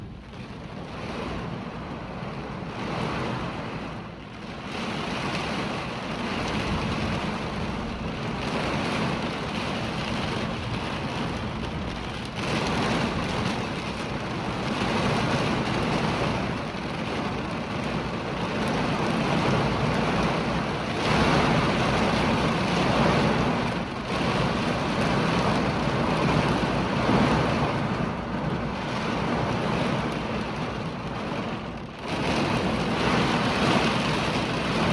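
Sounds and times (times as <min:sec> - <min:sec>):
gusting wind: 0:00.0 - 0:34.9
hurricane rain: 0:00.0 - 0:34.9.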